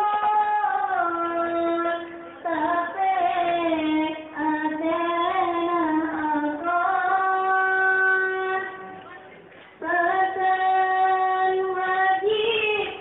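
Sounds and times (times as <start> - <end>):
woman singing devotional song: 0.0 - 13.0.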